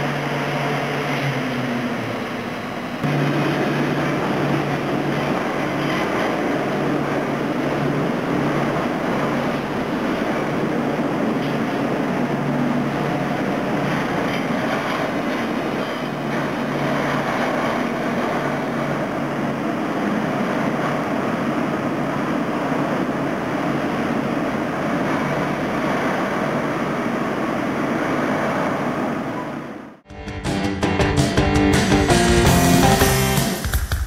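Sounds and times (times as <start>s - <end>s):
tram rumbling: 0.0s - 33.8s.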